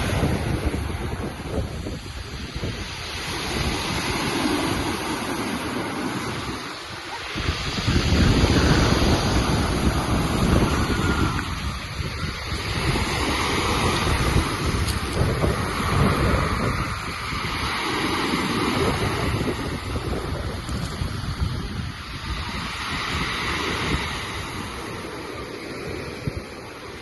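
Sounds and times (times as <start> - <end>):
sea waves washing onto shore: 0.0 - 27.0
wind buffeting microphone: 0.0 - 27.0.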